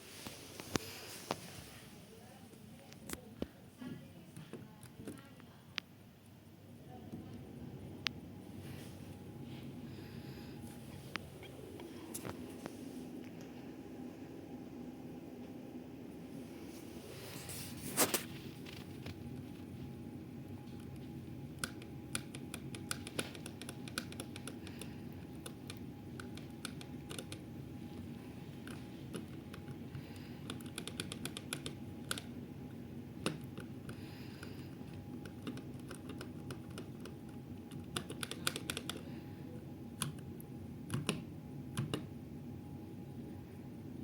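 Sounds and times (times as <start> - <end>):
air conditioner humming: 0.0 - 44.0.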